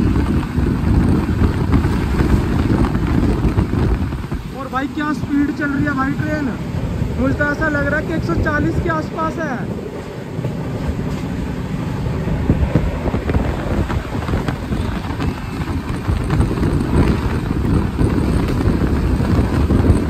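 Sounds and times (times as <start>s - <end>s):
wheels clattering over track: 0.0s - 6.5s, 9.6s - 20.0s
train rumble: 0.0s - 20.0s.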